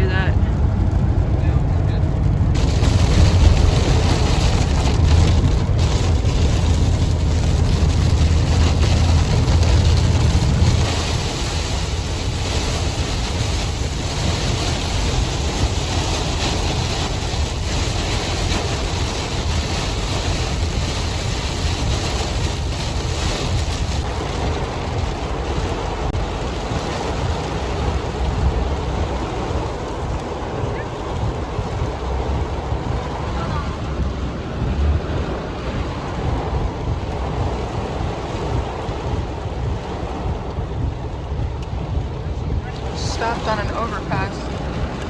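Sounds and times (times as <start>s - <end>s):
rain and wind against car: 0.0s - 45.0s
road and engine noise in car: 0.0s - 45.0s.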